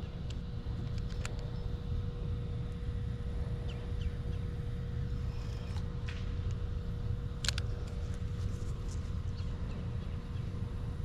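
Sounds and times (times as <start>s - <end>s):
faint steady hum: 0.0s - 11.0s
low outdoor rumble: 0.0s - 11.0s.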